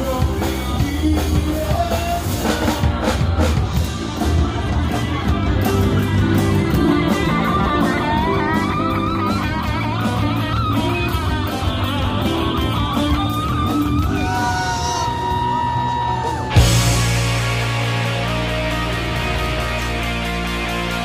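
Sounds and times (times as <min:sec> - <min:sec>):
bass guitar: 0:00.0 - 0:21.0
drums: 0:00.0 - 0:21.0
electric guitar solo: 0:04.1 - 0:21.0.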